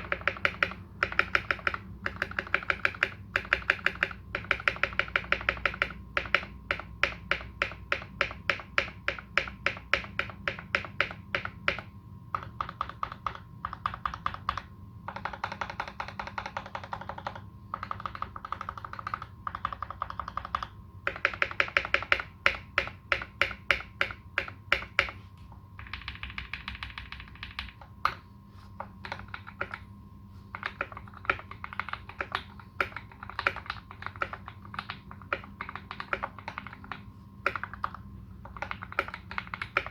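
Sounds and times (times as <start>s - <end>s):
mechanical keyboard typing: 0.0s - 25.2s, 25.8s - 28.2s, 28.8s - 29.9s, 30.5s - 39.9s.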